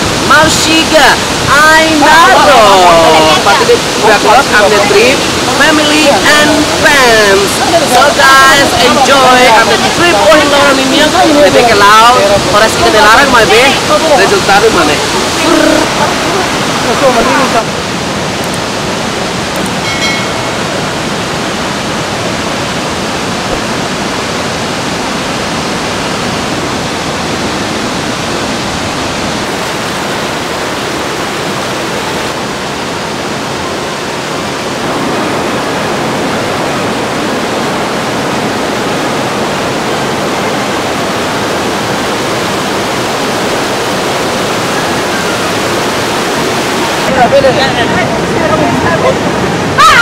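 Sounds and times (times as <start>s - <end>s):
waterfall and river rapids: 0.0s - 50.0s.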